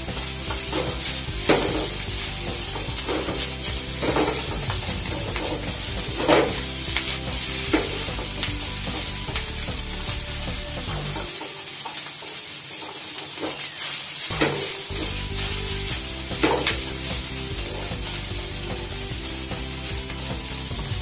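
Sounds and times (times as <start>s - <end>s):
rice sizzling in frying pan: 0.0s - 21.0s.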